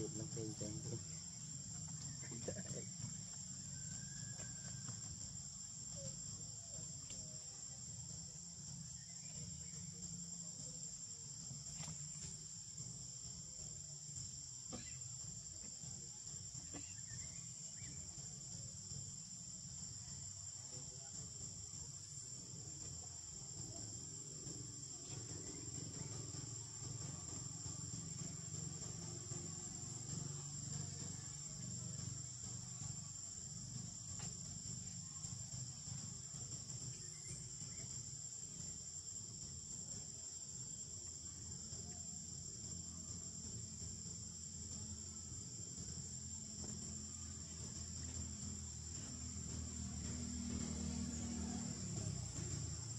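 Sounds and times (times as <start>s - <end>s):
insects droning: 0.0s - 52.9s
low steady rumble: 0.0s - 52.9s.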